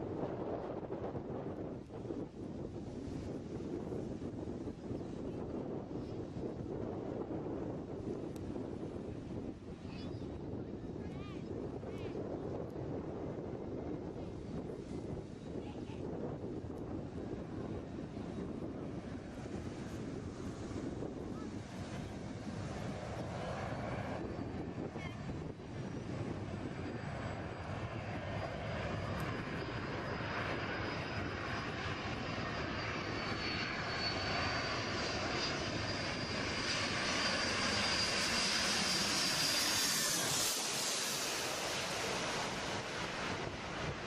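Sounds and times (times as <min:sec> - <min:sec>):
airplane engines rushing and whining: 0:00.0 - 0:44.0.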